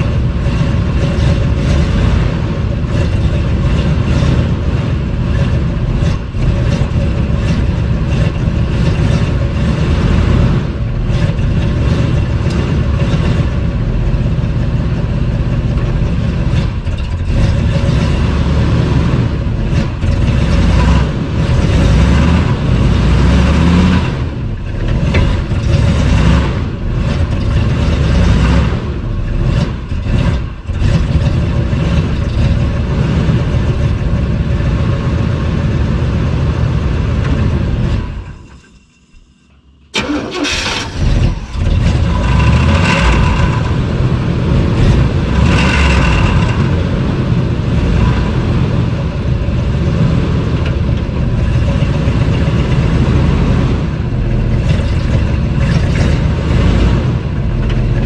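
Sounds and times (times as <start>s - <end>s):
pickup truck engine running: 0.0s - 58.0s.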